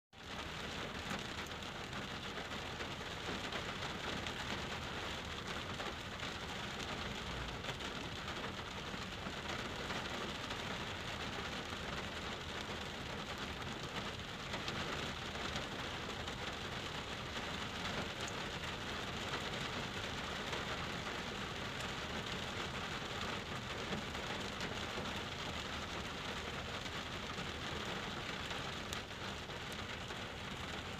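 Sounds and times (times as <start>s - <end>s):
rain on car windshield: 0.2s - 30.9s.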